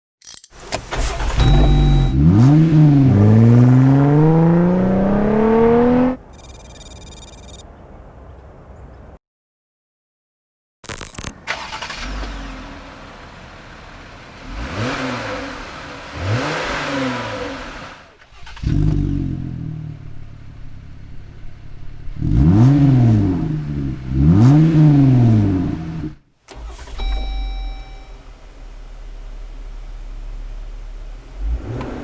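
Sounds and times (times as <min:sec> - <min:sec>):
car engine revving and idling: 0:00.8 - 0:06.2, 0:11.5 - 0:32.0.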